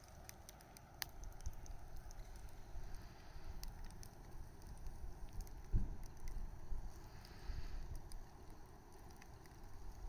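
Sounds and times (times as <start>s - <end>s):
bonfire rumbling: 0.0s - 10.0s
fire crackling and popping: 0.0s - 10.0s.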